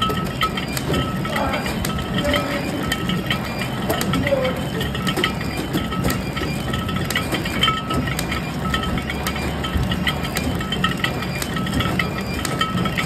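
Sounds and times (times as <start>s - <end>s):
packaging machine clattering: 0.0s - 13.0s.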